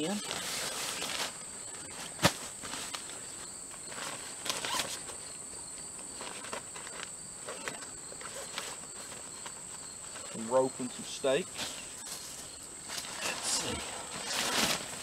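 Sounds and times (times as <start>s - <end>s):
high insect trill: 0.0s - 15.0s
nylon bag rustling: 0.0s - 15.0s.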